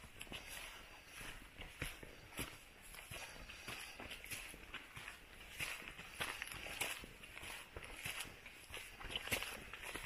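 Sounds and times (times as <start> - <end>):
footsteps on a trail: 0.0 - 10.0.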